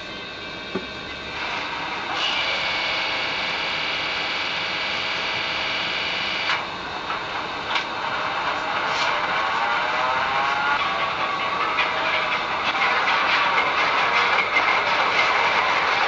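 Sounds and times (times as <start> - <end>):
model locomotive diesel engine sound: 0.0 - 16.0.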